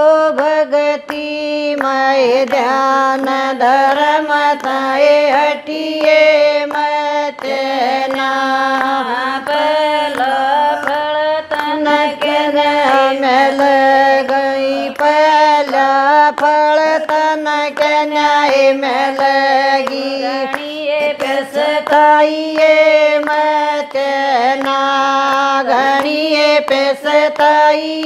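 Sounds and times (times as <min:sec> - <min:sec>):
rhythmic hand claps: 0:00.0 - 0:28.0
women singing devotional song: 0:00.0 - 0:28.0.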